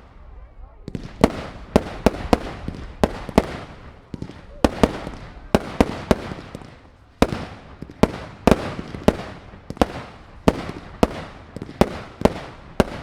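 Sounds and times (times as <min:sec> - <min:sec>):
fireworks bangs with echo: 0:00.0 - 0:13.0.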